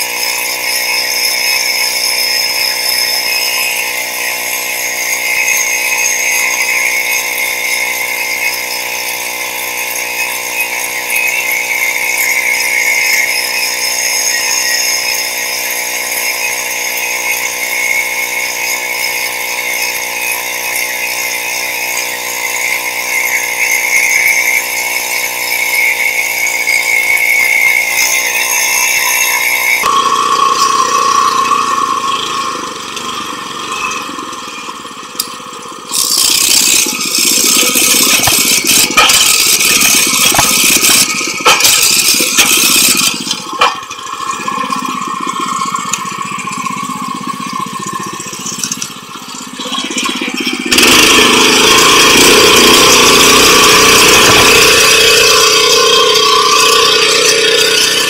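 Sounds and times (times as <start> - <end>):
rotary tiller engine running: 0.0 - 58.0.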